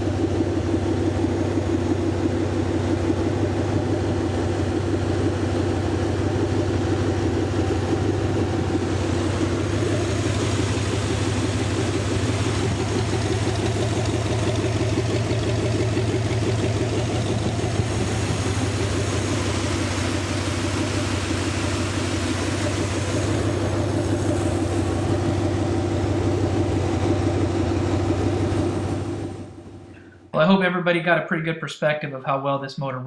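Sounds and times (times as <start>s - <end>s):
engine idling: 0.0s - 30.6s.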